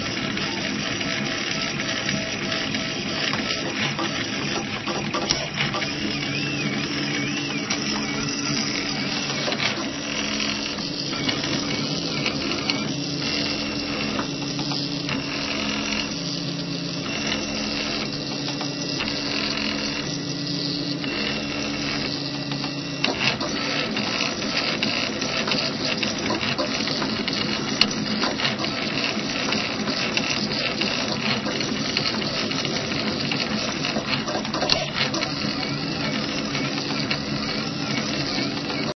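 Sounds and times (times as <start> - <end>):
small printer clicks: 0.0 - 16.3, 17.0 - 20.2, 21.0 - 38.9
stepper motors whining: 0.0 - 38.9.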